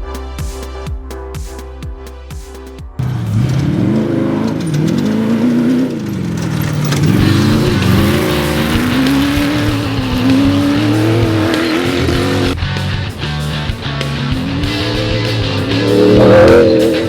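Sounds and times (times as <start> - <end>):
race vehicle engine running hard: 3.0 - 17.0.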